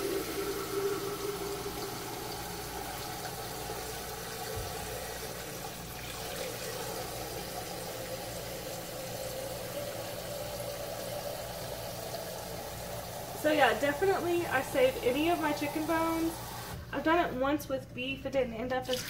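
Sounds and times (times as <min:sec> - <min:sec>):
faucet filling a container: 0:00.0 - 0:16.8.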